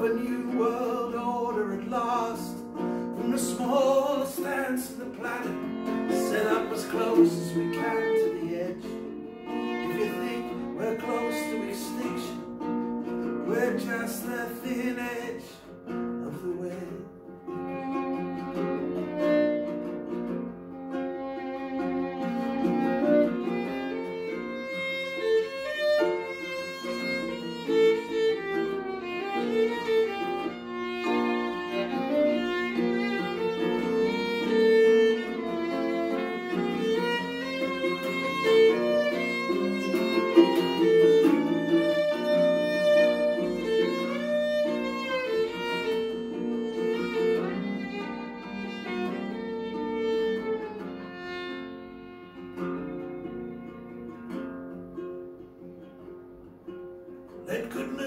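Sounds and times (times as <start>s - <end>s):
strummed ukulele: 0.0s - 58.0s
violin melody: 0.0s - 58.0s.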